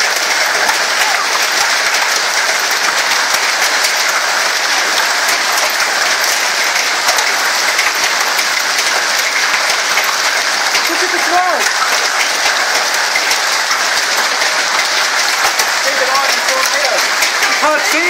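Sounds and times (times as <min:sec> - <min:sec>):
heavy rain on car roof: 0:00.0 - 0:18.0.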